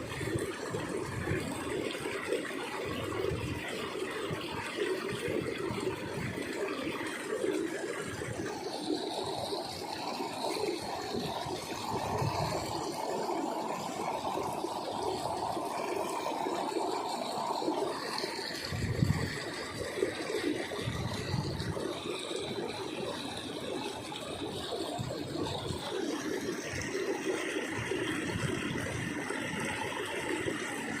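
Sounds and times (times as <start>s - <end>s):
fast-flowing water rushing: 0.0s - 31.0s.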